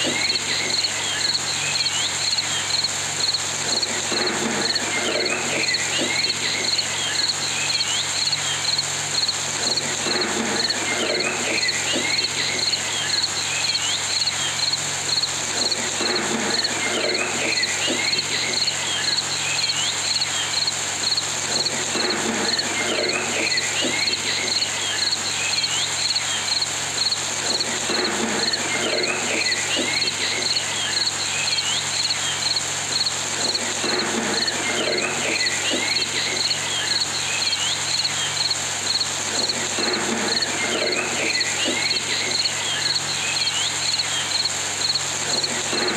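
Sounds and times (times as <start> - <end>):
insects chirping: 0.0 - 45.9.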